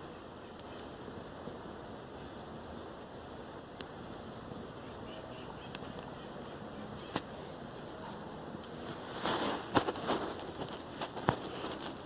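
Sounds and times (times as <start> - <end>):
fire popping: 0.0 - 12.0
wood fire crackling: 0.0 - 12.0.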